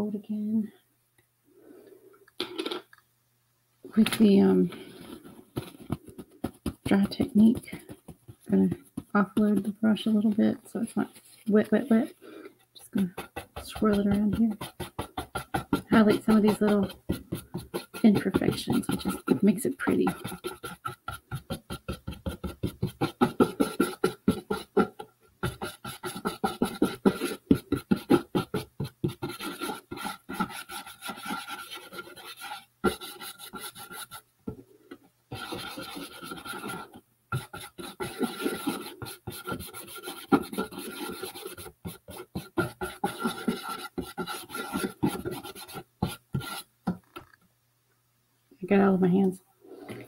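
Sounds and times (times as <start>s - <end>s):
paintbrush scrubbing cardboard: 4.3s - 34.3s, 35.3s - 46.7s.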